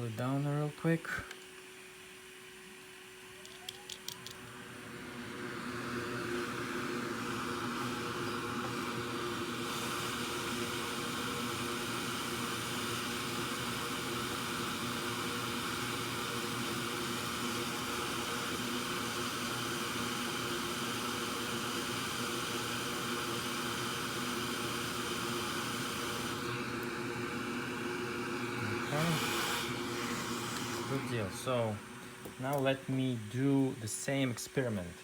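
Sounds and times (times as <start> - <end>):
fan hiss: 0.0 - 35.0.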